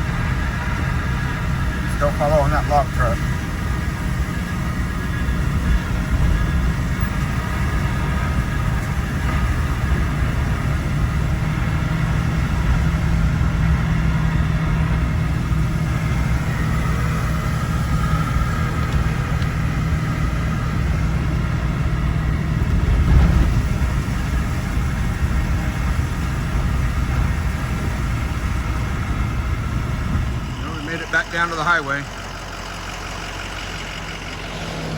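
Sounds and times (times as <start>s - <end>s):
dirt road noise: 0.0s - 34.9s
truck engine running: 0.0s - 34.9s.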